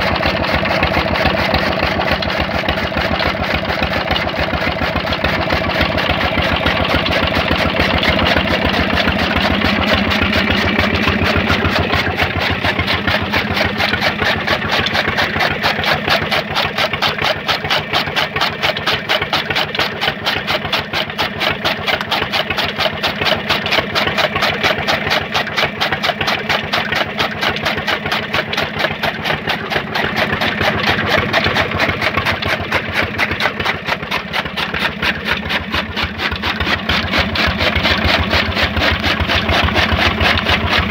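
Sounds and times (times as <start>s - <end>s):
chaff cutter chopping fodder: 0.0s - 40.9s
diesel engine running: 0.0s - 40.9s.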